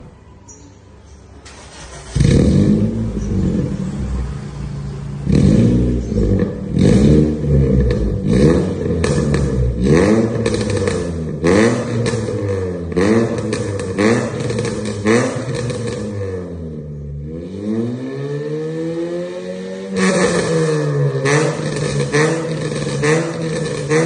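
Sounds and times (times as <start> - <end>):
car engine revving: 1.5 - 24.0.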